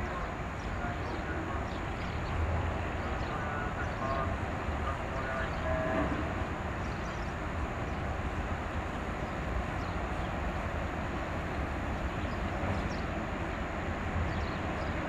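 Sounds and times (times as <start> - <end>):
boat engines rumbling: 0.0 - 15.0
bow wave and wake washing: 0.0 - 15.0.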